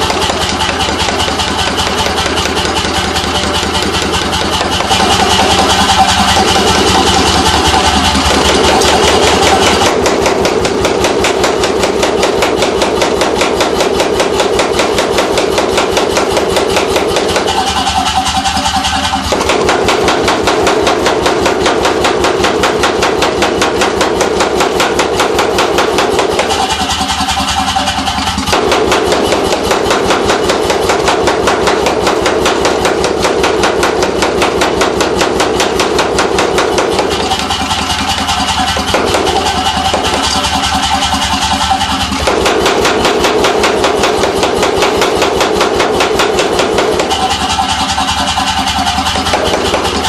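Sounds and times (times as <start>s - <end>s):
air hammer striking: 0.0s - 50.0s
motor and compressor hum: 0.0s - 50.0s.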